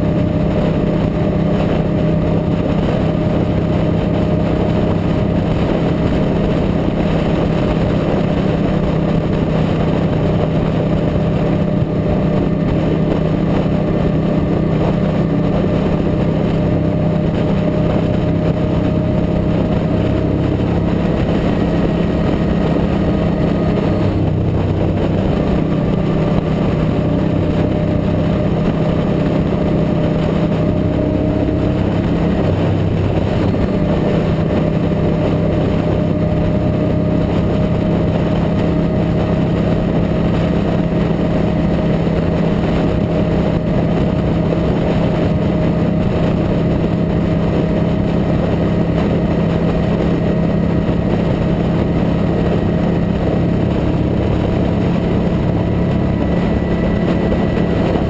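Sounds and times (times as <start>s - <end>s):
heavy wind rush: 0.0s - 58.0s
motorcycle engine drone: 0.0s - 58.0s.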